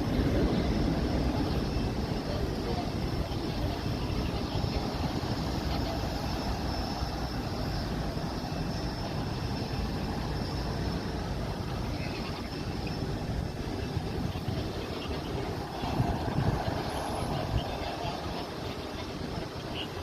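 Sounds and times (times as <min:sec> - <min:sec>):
faint high whine: 0:00.0 - 0:20.0
jet engines rumbling: 0:00.0 - 0:20.0.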